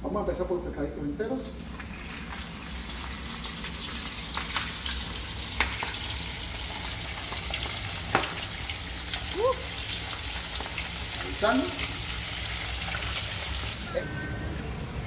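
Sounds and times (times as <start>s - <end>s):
oil sizzling in a frying pan: 1.4s - 15.0s.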